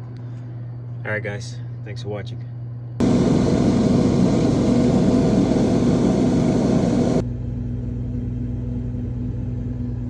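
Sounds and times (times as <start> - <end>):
refrigerator compressor humming: 0.0 - 10.0.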